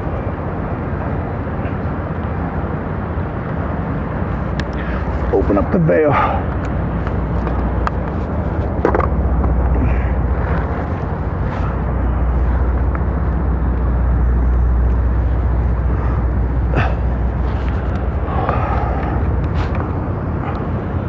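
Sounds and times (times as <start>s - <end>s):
boat engines rumbling: 0.0s - 21.0s
continuous rushing noise: 0.0s - 21.0s.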